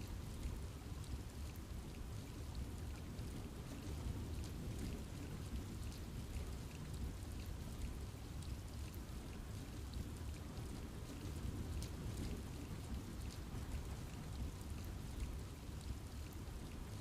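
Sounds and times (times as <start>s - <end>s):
rain falling in a forest: 0.0s - 17.0s.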